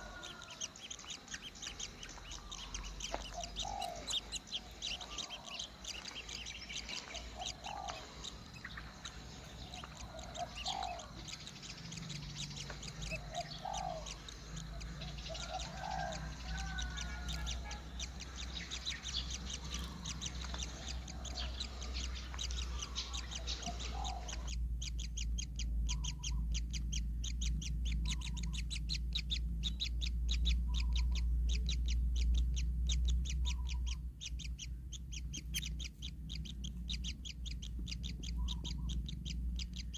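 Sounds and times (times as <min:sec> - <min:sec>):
kingfisher nestlings chirping: 0:00.0 - 0:39.9
lower bird call rising and falling: 0:00.0 - 0:39.9.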